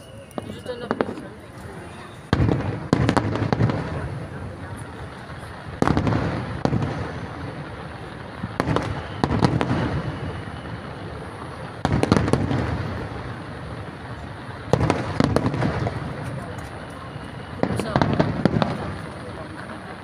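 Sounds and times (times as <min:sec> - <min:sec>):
fireworks booming: 0:00.2 - 0:20.0.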